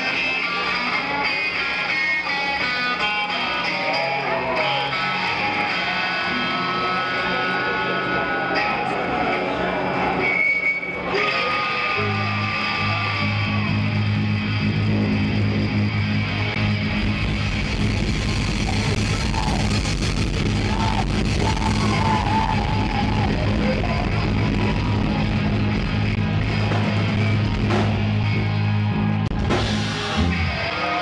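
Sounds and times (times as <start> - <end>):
rock band playing loud: 0.0 - 31.0.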